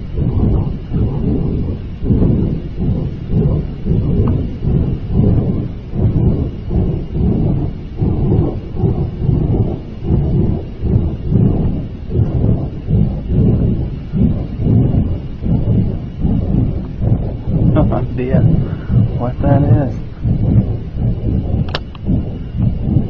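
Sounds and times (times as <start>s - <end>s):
storm wind buffeting microphone: 0.0s - 23.0s.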